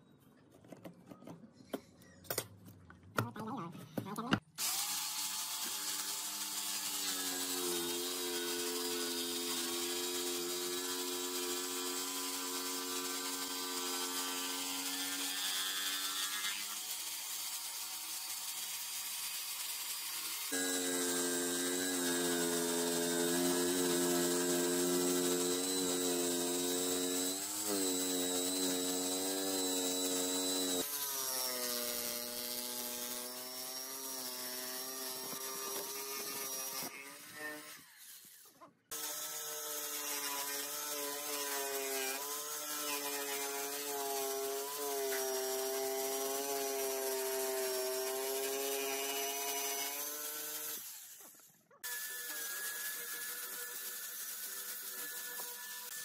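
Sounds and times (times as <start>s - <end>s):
angle grinder sanding wood: 4.6s - 56.0s
jigsaw cutting wood: 4.6s - 56.0s.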